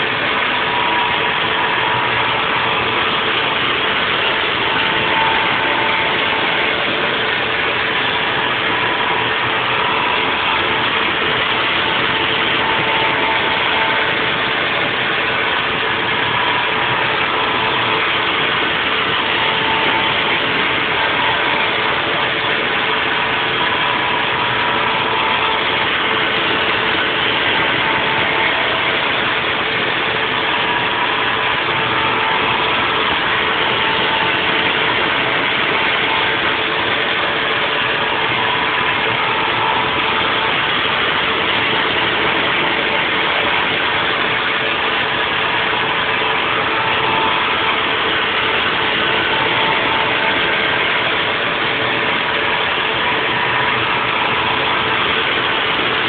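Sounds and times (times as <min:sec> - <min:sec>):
higher machine tone: 0:00.0 - 0:56.0
milling machine cutting: 0:00.0 - 0:56.0.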